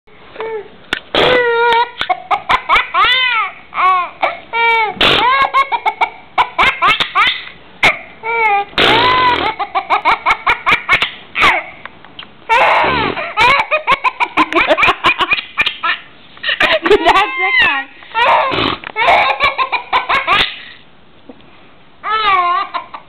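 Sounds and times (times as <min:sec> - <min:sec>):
baby laughing and squealing: 0:01.2 - 0:11.8, 0:12.5 - 0:20.8, 0:22.0 - 0:23.0.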